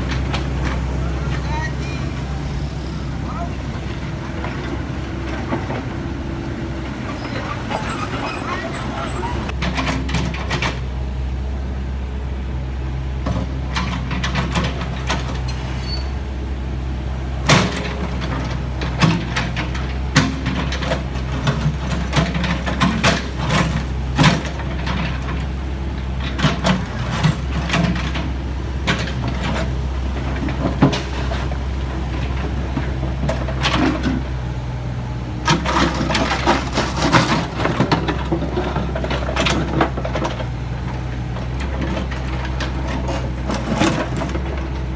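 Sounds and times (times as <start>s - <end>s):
heavy machine engine hum: 0.0s - 44.9s.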